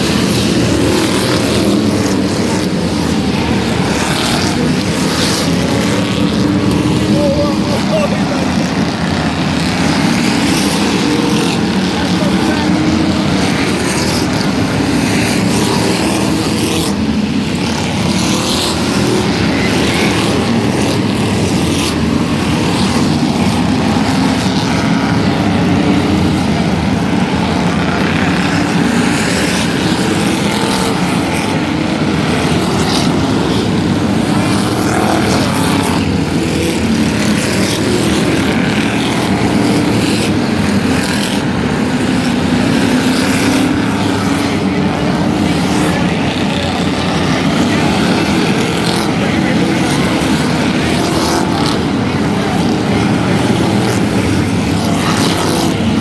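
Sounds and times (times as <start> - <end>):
loud engines running hard: 0.0 - 56.0.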